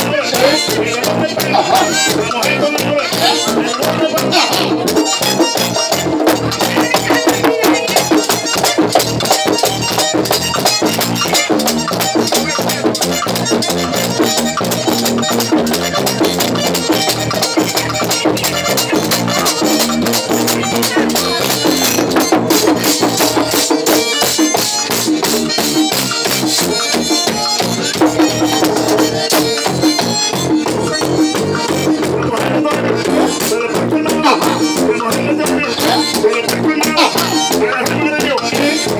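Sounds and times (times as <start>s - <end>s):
accordion melody: 0.0s - 38.9s
electric bass: 0.0s - 38.9s
tambora drum beat: 0.0s - 38.9s
scraped percussion: 0.1s - 38.9s.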